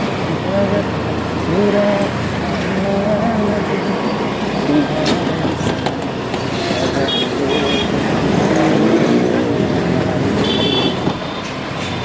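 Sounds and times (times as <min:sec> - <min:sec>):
motorbike engine rumble: 0:00.0 - 0:12.0
road traffic: 0:00.0 - 0:12.0.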